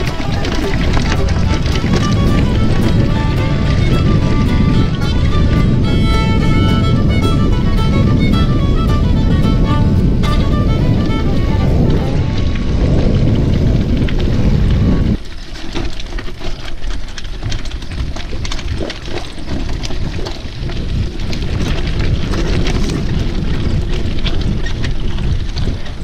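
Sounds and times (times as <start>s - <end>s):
bike rattling: 0.0s - 26.0s
bike tyres crunching over stones: 0.0s - 26.0s
wind rumble on microphone: 0.0s - 26.0s.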